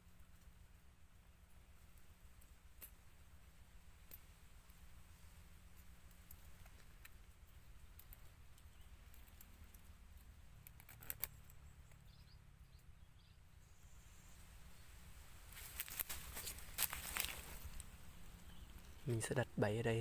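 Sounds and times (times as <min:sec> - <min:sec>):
small crackles: 0:00.0 - 0:12.2, 0:14.9 - 0:19.6.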